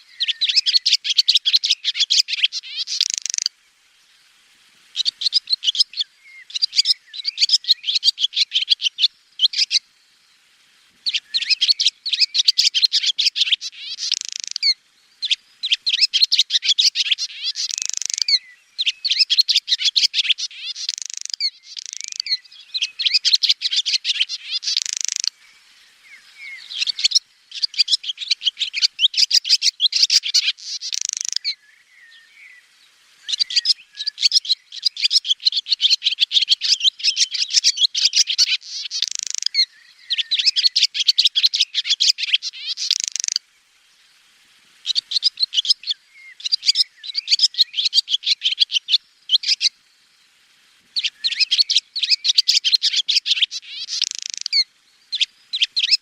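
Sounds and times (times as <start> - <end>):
swallow twittering: 0.0 - 3.5, 5.0 - 9.8, 11.0 - 32.6, 33.2 - 43.4, 44.8 - 49.8, 51.0 - 56.0.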